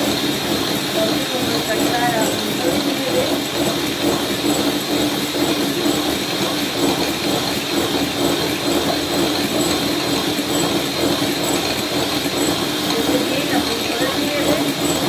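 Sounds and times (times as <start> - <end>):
electric hand mixer whipping: 0.0 - 15.0.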